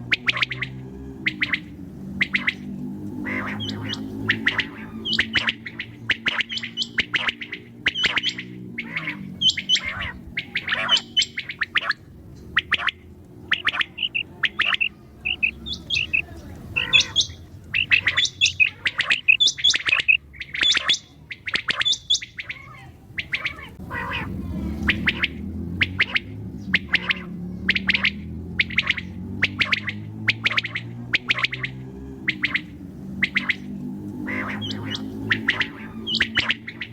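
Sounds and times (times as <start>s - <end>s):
quail calling: 0.0s - 36.9s.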